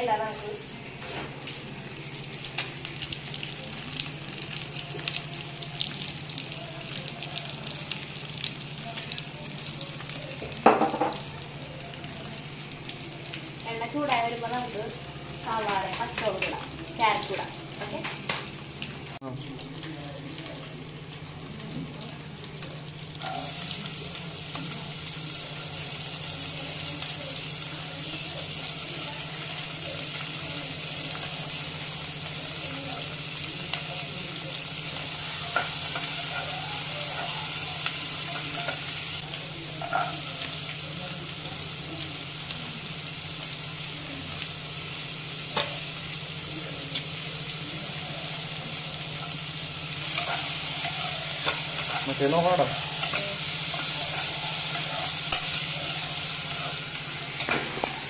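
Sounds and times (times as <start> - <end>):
vegetables sizzling in hot oil: 0.0 - 58.0.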